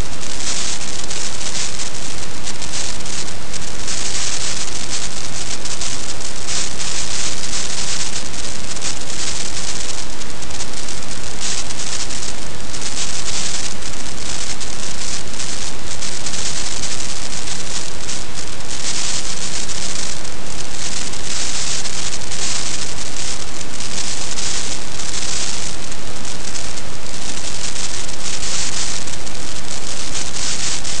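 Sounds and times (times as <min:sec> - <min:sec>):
rain hissing on microphone: 0:00.0 - 0:31.0.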